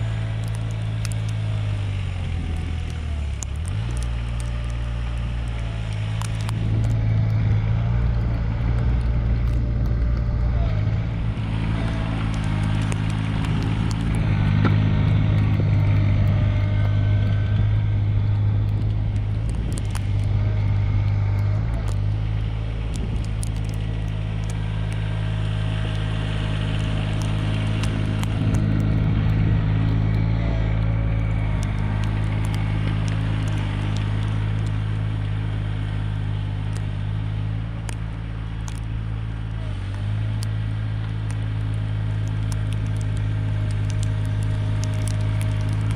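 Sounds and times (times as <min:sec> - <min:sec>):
faint clicks and crackles: 0:00.0 - 0:45.9
tractor diesel engine running: 0:00.0 - 0:45.9.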